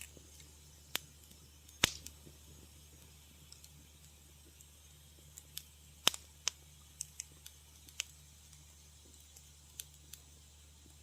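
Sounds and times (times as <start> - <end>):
low steady hum: 0.0 - 11.0
wood fire crackling: 0.0 - 11.0.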